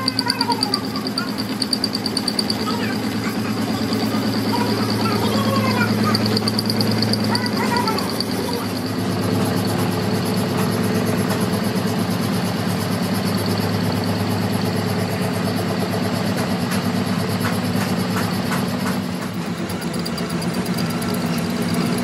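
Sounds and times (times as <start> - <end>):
metal lathe humming: 0.0 - 22.0.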